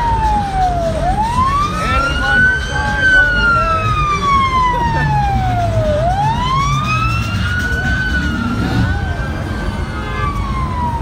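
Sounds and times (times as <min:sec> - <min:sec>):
police siren wailing: 0:00.0 - 0:11.0.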